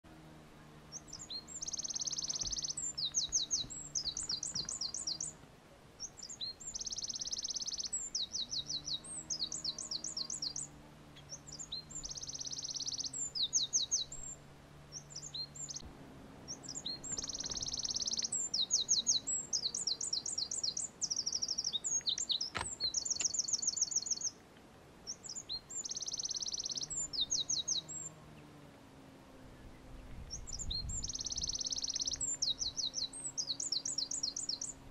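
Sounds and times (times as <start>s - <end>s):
wren singing: 0.6s - 24.4s, 25.0s - 28.7s, 29.4s - 34.9s.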